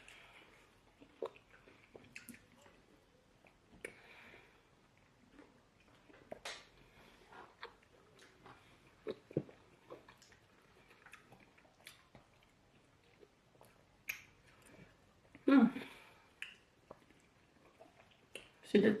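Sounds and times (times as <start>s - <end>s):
people chewing and smacking: 0.0s - 18.7s.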